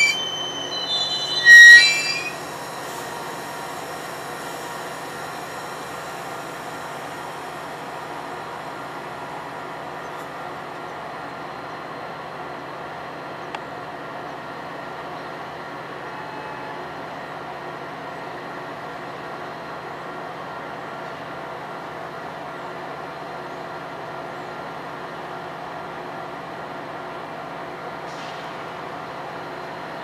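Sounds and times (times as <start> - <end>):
train mechanical hum: 0.0 - 30.0.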